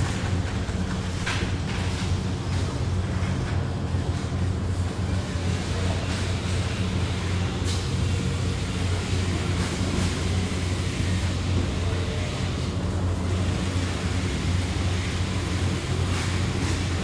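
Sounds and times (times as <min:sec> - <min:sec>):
industrial noise: 0:00.0 - 0:17.0
machinery low hum: 0:00.0 - 0:17.0.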